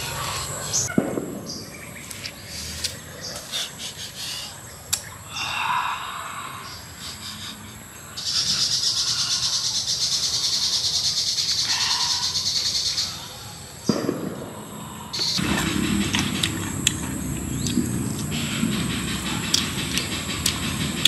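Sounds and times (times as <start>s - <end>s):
insect buzzing: 1.5s - 21.0s.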